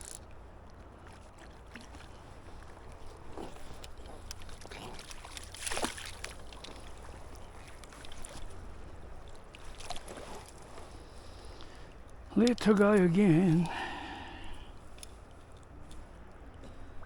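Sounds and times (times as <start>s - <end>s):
river water splashing: 0.0s - 17.0s.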